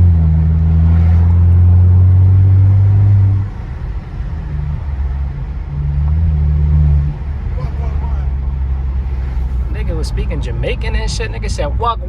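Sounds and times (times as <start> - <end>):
car exhaust droning: 0.0 - 12.0.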